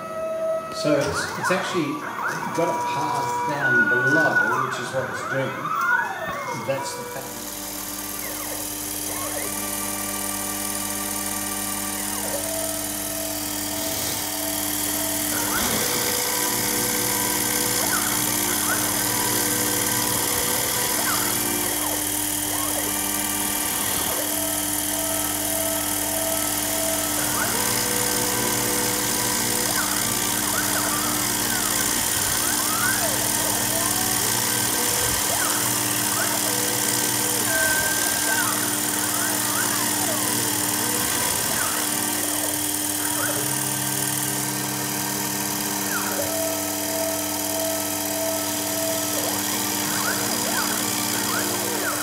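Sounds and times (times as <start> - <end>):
mill spindle running: 0.0 - 52.0
stepper motor whine: 0.0 - 52.0
end mill cutting with hiss: 6.7 - 52.0.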